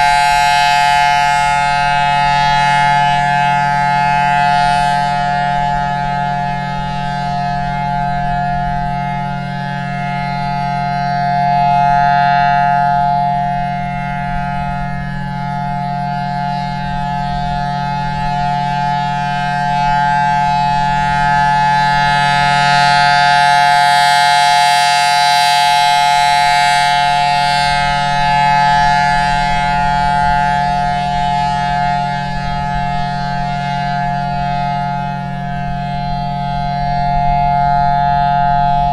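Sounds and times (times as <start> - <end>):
warning siren sounding a steady chord: 0.0 - 38.9.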